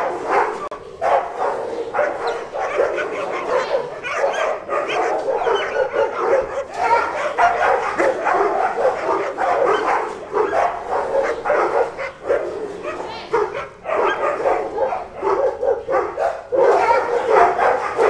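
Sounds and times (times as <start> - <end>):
pack of dogs barking: 0.0 - 18.0.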